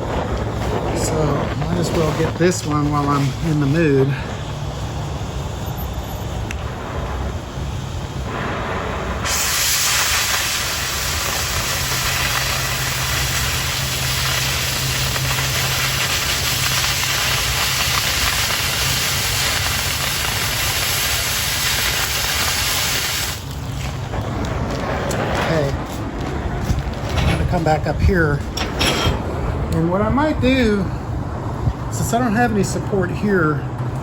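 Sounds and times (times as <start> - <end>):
cutting torch hissing: 0.0 - 30.2.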